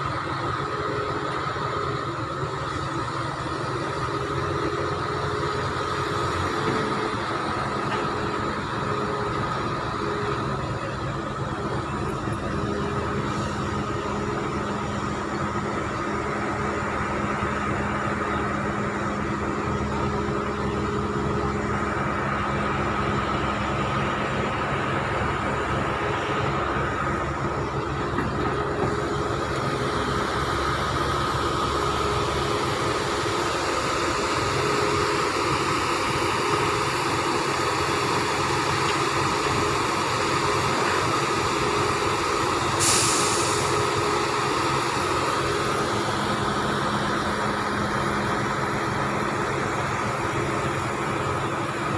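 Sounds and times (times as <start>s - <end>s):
diesel construction machinery drone: 0.0s - 51.9s.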